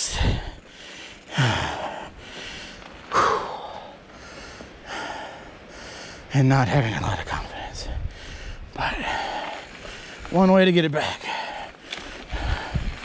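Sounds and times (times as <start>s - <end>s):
man breathing heavily: 0.0s - 6.3s, 7.8s - 10.3s, 11.0s - 13.0s.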